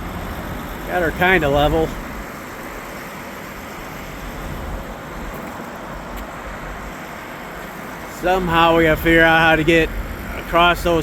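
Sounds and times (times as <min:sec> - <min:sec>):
highway traffic roar: 0:00.0 - 0:11.0.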